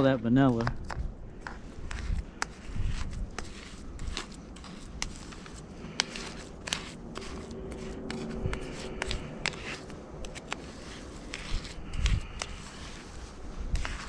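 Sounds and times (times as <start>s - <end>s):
metal spoon scraping bowl: 1.8s - 14.0s.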